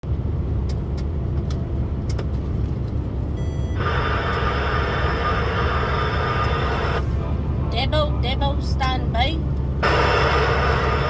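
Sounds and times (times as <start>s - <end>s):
truck rumble from inside cab: 0.0s - 11.0s.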